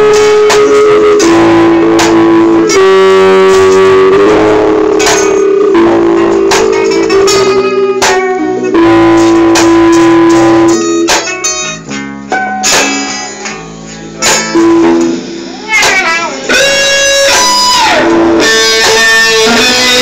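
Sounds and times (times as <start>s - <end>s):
live band with guitars: 0.0s - 20.0s.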